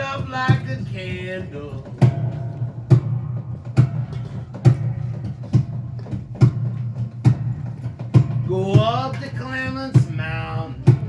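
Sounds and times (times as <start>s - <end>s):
sharp percussive hits: 0.0s - 11.0s.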